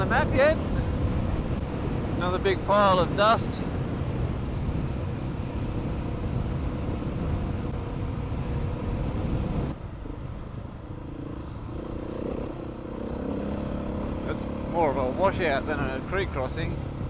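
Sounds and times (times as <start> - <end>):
wind and tyre rush: 0.0 - 17.0.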